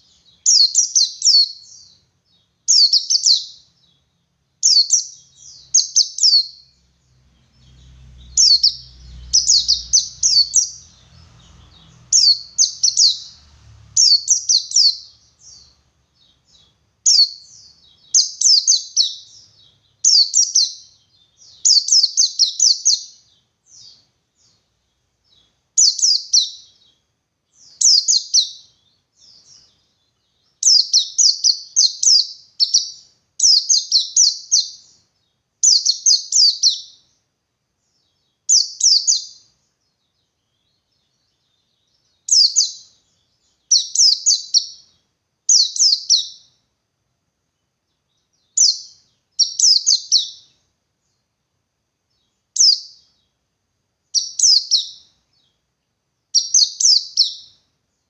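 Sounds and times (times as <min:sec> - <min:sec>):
bird singing downward chirps: 0:00.0 - 0:37.2, 0:37.9 - 0:46.7, 0:47.9 - 0:51.3, 0:52.1 - 0:53.4, 0:54.0 - 0:55.6, 0:56.3 - 0:57.7.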